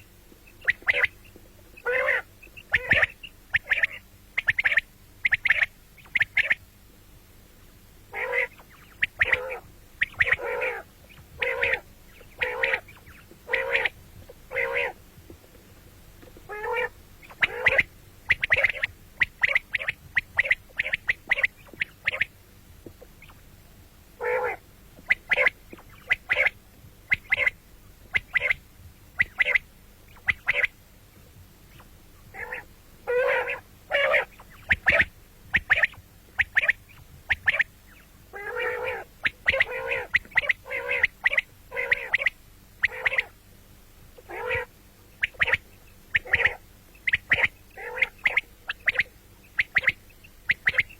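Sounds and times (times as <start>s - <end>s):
quail calling: 0.0s - 6.6s, 8.1s - 15.0s, 16.4s - 22.4s, 24.2s - 30.8s, 31.7s - 43.4s, 44.2s - 50.9s.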